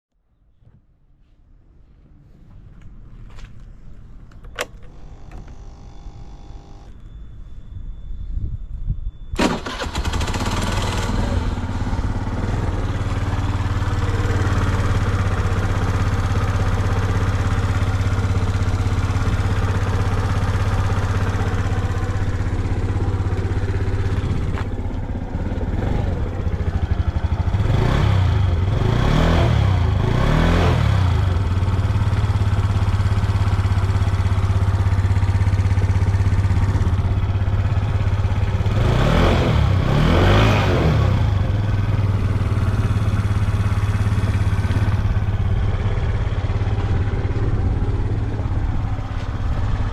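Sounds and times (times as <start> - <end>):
scooter engine starting and idling: 4.1 - 7.4, 9.3 - 49.9
scooter engine revving: 9.4 - 49.9.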